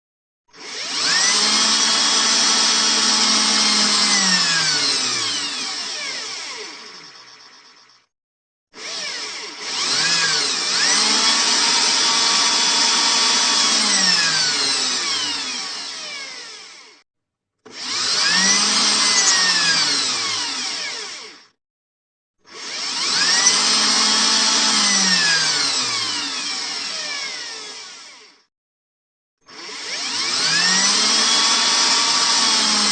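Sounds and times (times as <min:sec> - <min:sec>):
electric drill motor whining: 0:00.5 - 0:08.1, 0:08.8 - 0:17.0, 0:17.7 - 0:21.6, 0:22.5 - 0:28.5, 0:29.5 - 0:32.9.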